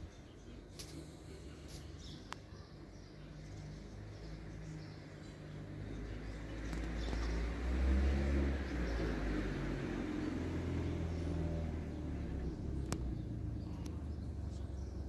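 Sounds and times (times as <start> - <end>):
passing motor vehicle rumble: 0.0 - 15.0.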